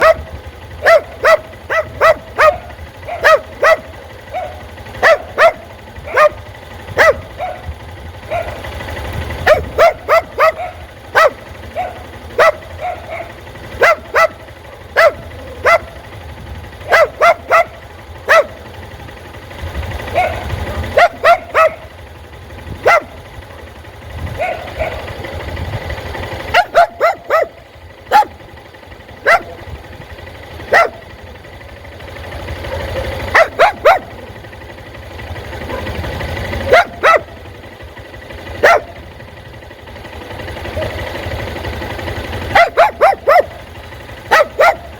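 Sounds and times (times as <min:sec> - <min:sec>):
dog barking: 0:00.0 - 0:18.9, 0:19.6 - 0:22.0, 0:22.7 - 0:31.5, 0:32.4 - 0:34.5, 0:35.4 - 0:39.1, 0:40.4 - 0:44.9.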